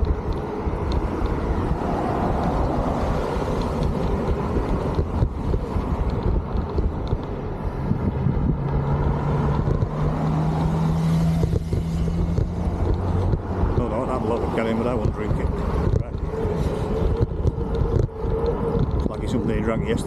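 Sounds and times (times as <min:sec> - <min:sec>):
road traffic: 0:00.0 - 0:20.0
wind rumbling over microphone: 0:00.0 - 0:20.0.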